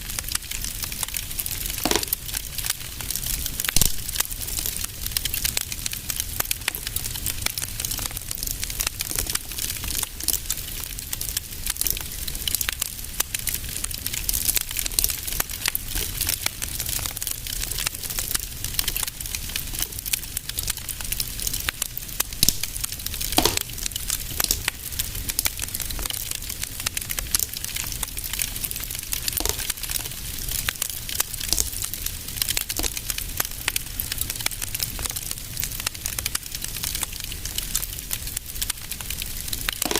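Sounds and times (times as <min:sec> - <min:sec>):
fireplace fire crackling and popping: 0:00.0 - 0:39.9.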